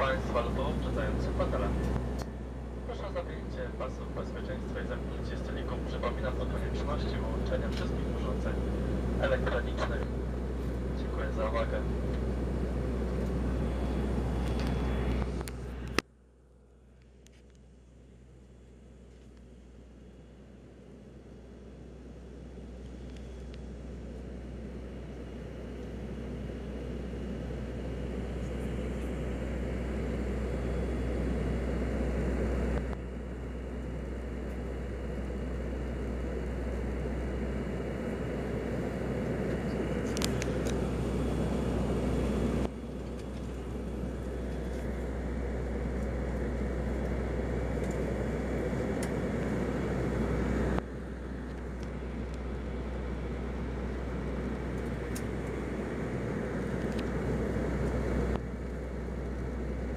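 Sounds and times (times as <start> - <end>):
low propeller hum: 0.0 - 59.9
turboprop engines droning: 0.0 - 59.9.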